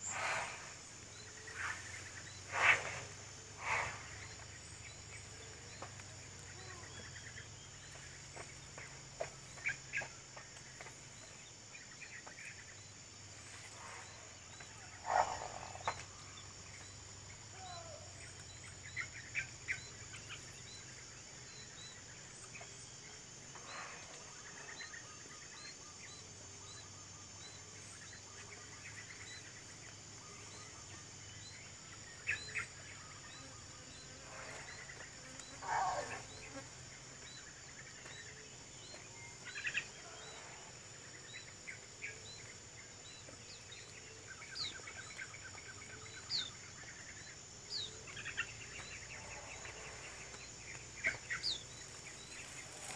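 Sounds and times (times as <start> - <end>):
bird calls: 0.0 - 52.9
high insect drone: 0.0 - 52.9
short insect chirp: 0.0 - 52.9.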